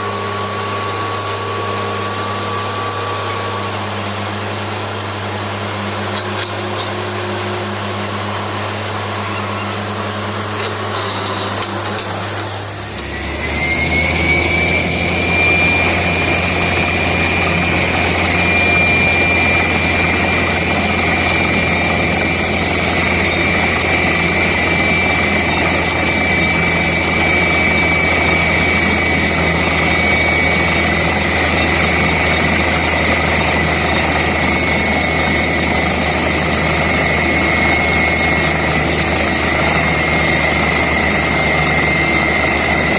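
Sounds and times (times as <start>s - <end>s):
drilling rig engine hum: 0.0s - 42.9s
high whine: 0.0s - 42.9s.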